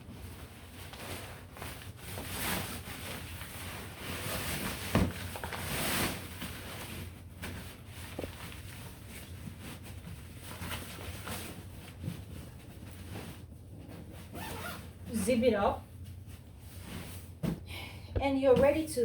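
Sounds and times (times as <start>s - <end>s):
fabric bag rustling and scraping: 0.0s - 17.6s.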